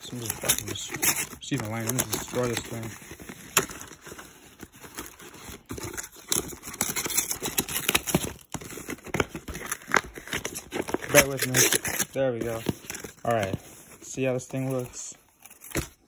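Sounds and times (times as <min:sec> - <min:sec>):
cardboard and paper tearing: 0:00.0 - 0:16.0.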